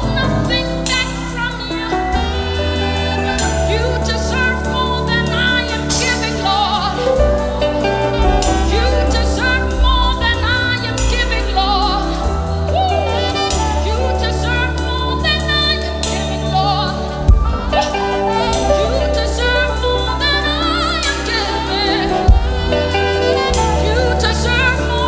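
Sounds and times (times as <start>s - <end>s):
band with deep bass: 0.0s - 25.0s.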